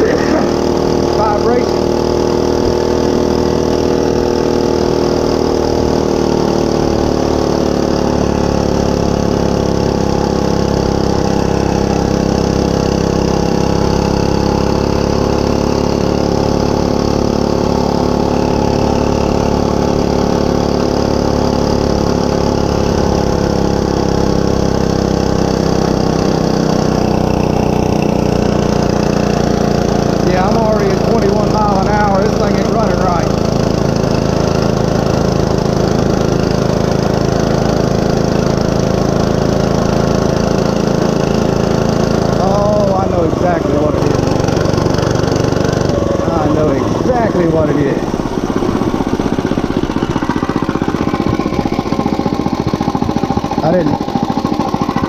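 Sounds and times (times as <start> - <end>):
mini bike engine running: 0.0 - 55.0.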